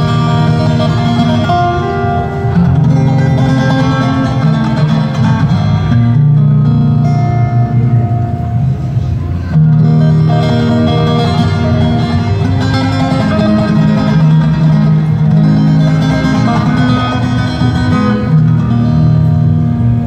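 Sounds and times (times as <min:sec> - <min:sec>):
acoustic guitar melody: 0:00.0 - 0:20.0.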